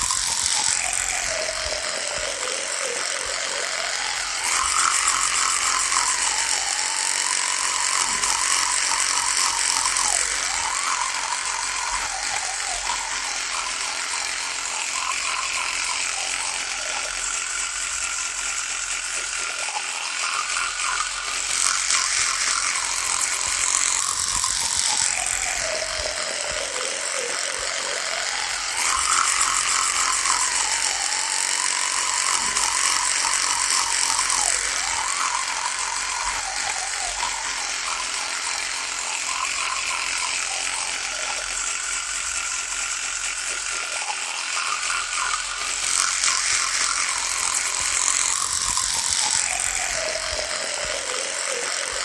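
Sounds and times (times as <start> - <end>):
electric toothbrush buzzing: 0.0 - 52.0.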